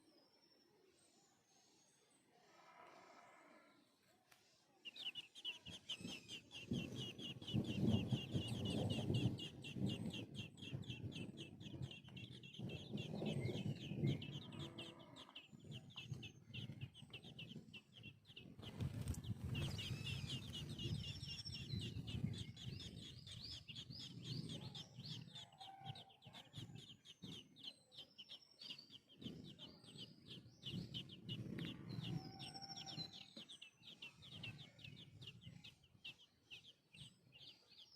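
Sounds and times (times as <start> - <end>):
nestling birds cheeping: 2.4 - 37.9.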